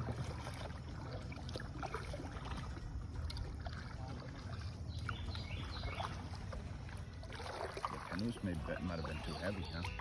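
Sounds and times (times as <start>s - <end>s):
paddles splashing water: 0.0s - 10.0s.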